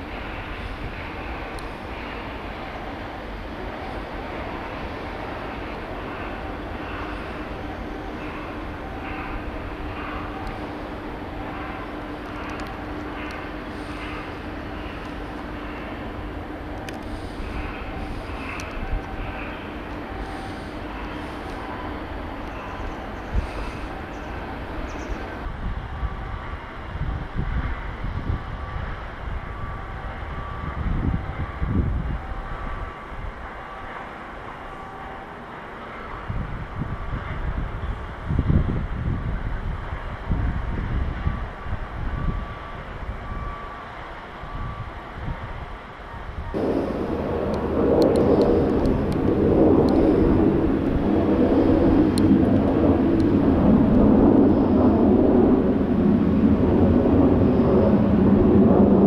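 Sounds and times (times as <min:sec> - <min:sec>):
wind buffeting microphone: 0:00.0 - 0:35.2, 0:36.0 - 0:59.0
fighter jets flying overhead: 0:00.0 - 0:59.0.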